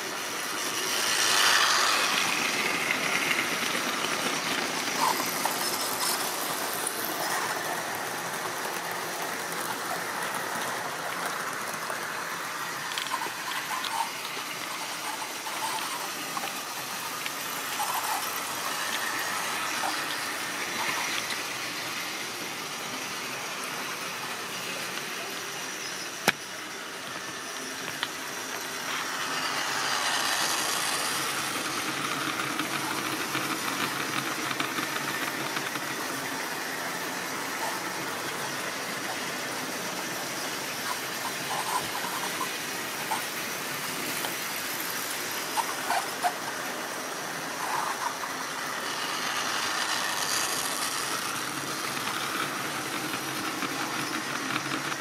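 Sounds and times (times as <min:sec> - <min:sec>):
model train motor whirring: 0:00.0 - 0:55.0.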